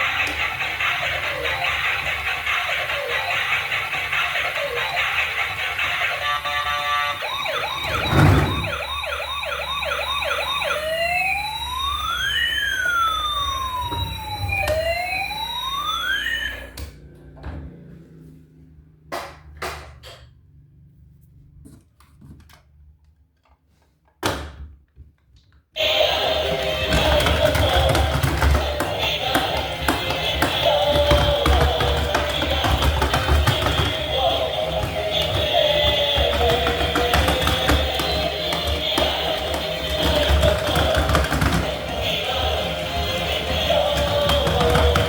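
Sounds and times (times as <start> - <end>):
electronic toy siren: 0.0 - 17.1, 25.8 - 45.0.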